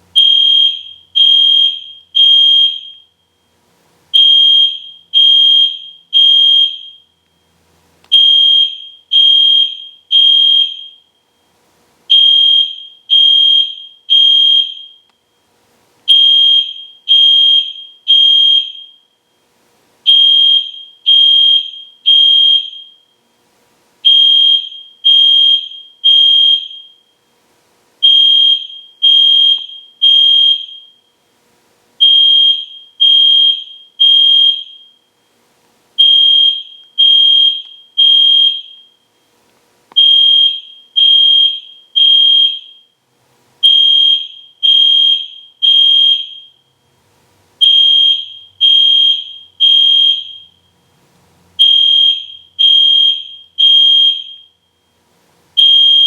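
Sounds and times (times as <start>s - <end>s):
fire alarm horn blasts: 0.1s - 3.5s, 4.1s - 7.2s, 8.1s - 11.4s, 12.1s - 15.3s, 16.1s - 19.4s, 20.0s - 23.2s, 24.0s - 27.3s, 28.0s - 31.2s, 32.0s - 35.2s, 36.0s - 39.1s, 40.0s - 43.0s, 43.6s - 46.6s, 47.6s - 50.8s, 51.6s - 55.0s, 55.6s - 56.0s.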